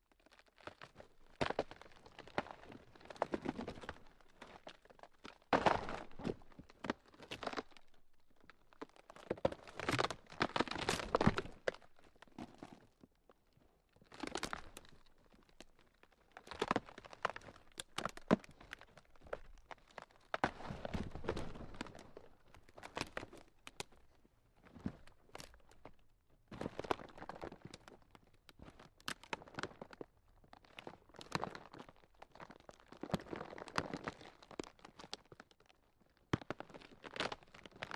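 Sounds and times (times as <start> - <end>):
ground cracking and crunching: 0.1 - 37.9.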